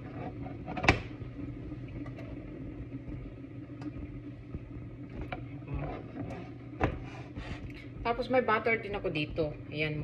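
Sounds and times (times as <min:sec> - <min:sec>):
low kitchen hum: 0:00.0 - 0:10.0.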